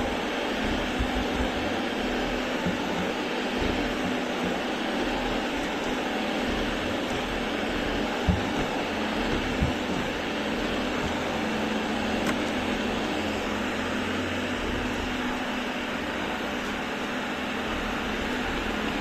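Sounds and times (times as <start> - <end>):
robot vacuum cleaner whirring: 0.0 - 19.0.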